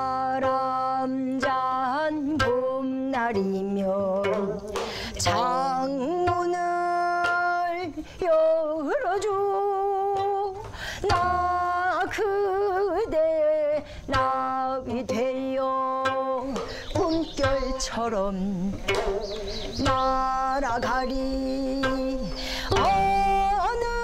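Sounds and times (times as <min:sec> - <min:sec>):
plucked zither accompaniment: 0:00.0 - 0:24.0
woman singing with vibrato: 0:00.0 - 0:24.0.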